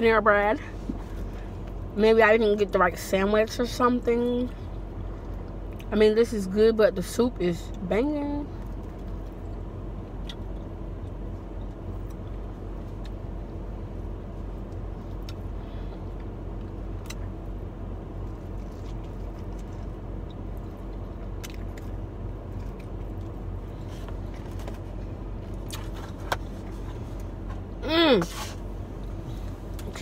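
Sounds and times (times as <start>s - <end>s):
car engine idling inside cabin: 0.0s - 30.0s.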